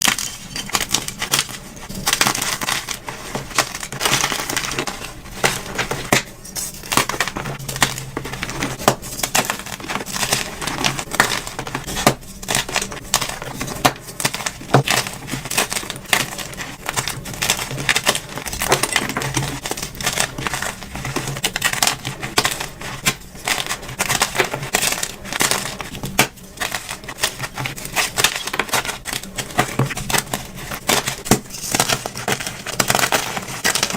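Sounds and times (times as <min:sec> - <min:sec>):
chalk being crushed: 0:00.0 - 0:33.9.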